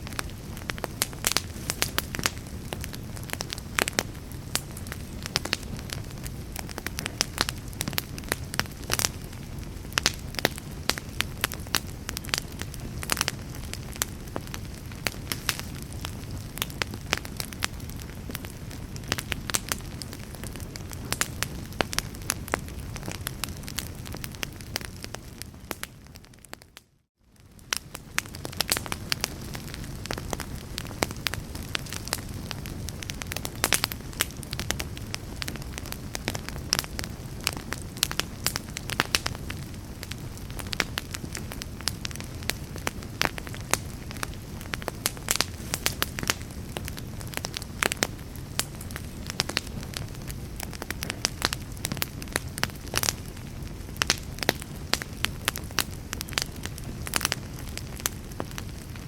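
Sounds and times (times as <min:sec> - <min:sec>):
fire burning with crackles: 0:00.0 - 0:59.0.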